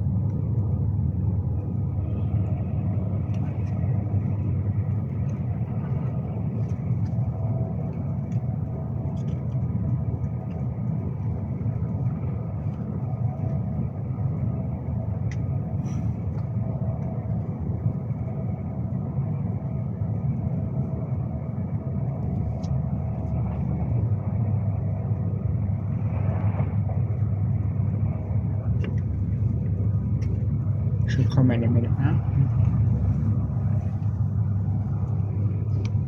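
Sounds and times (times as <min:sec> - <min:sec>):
electric train rumbling inside carriage: 0:00.0 - 0:36.0
faint steady tones: 0:00.0 - 0:36.0.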